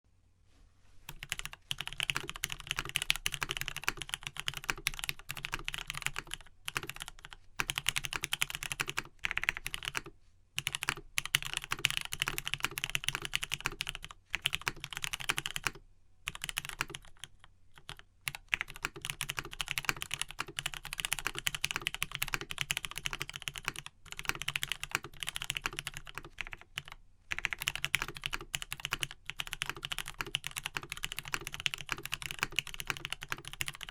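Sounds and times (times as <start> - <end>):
mechanical keyboard typing: 1.1 - 33.9.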